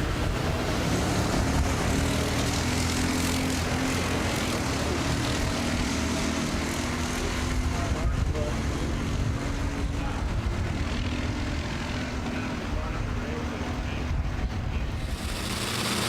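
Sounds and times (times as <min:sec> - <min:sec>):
racing car engine droning: 0:00.0 - 0:16.0.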